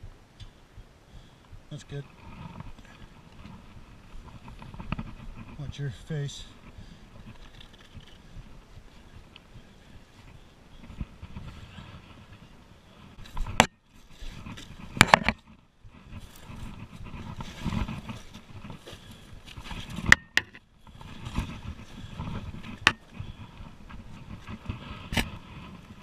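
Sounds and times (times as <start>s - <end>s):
shuffling and scraping: 1.8s - 26.0s.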